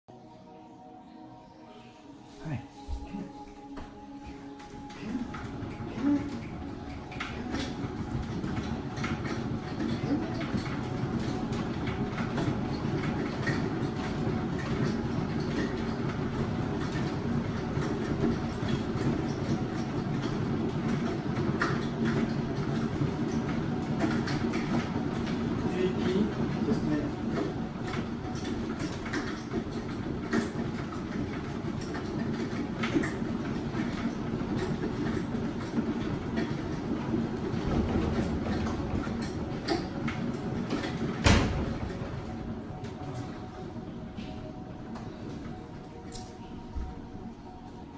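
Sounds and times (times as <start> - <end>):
cat wheel rumbling: 3.3 - 47.9.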